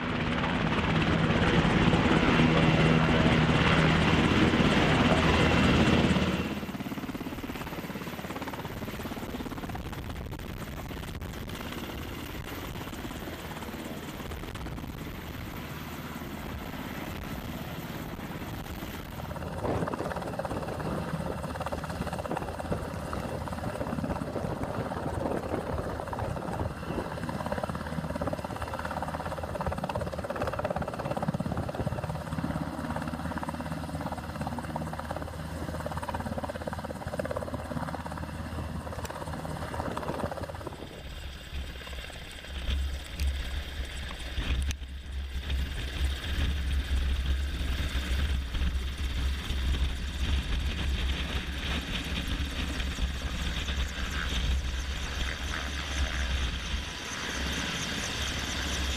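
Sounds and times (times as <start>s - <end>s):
helicopter hovering: 0.0s - 58.9s.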